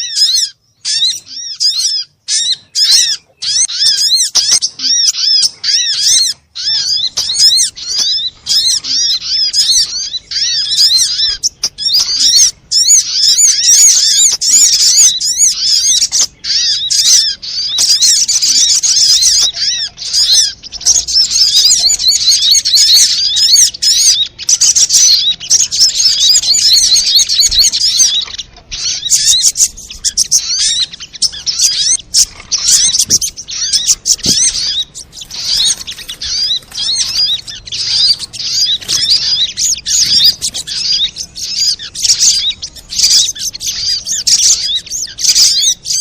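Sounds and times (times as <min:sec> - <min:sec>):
rapid high bird chirps: 0:00.0 - 0:46.0.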